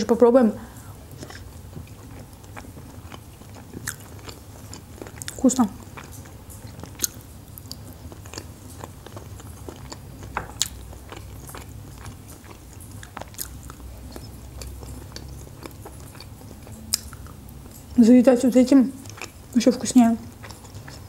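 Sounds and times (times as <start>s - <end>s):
steady low hum: 0.0s - 21.0s
person chewing food: 0.7s - 18.0s, 19.0s - 19.6s, 20.2s - 21.0s.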